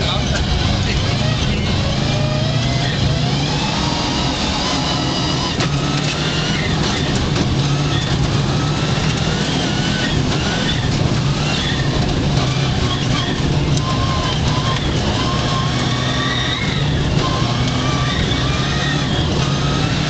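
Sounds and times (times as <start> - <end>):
rally car engine revving: 0.0 - 20.0
road noise: 0.0 - 20.0.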